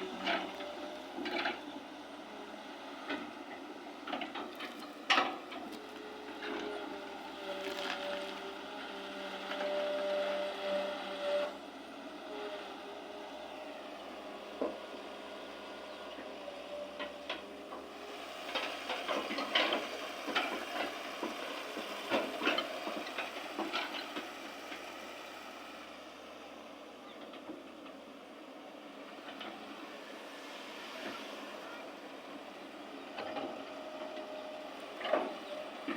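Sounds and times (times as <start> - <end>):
excavator whining: 0.0 - 35.9.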